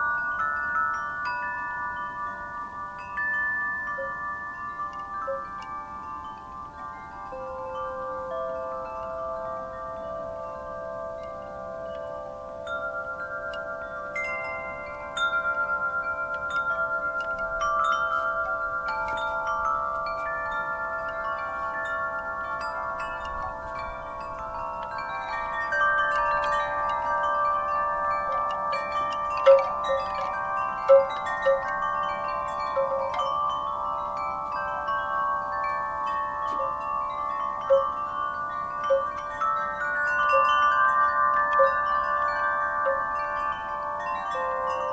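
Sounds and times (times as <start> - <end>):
wind chimes ringing: 0.0 - 44.9.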